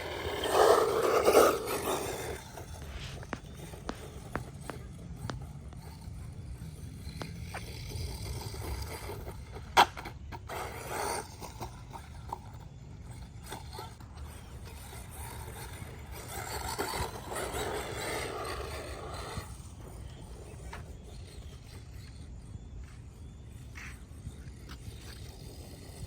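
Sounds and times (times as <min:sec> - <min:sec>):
rc truck driving over rough ground: 0:00.0 - 0:26.0.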